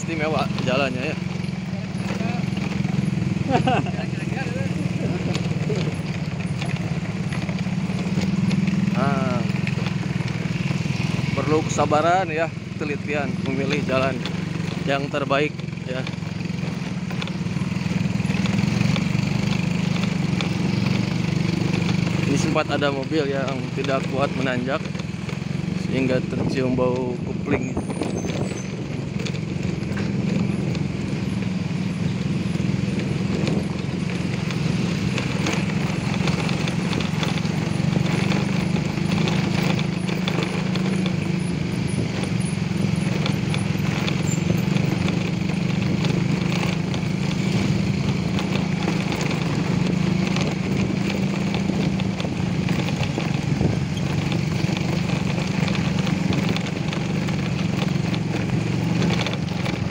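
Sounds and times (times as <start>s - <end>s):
motorcycle engine running: 0.0s - 59.9s
stones rattling under wheels: 0.0s - 59.9s.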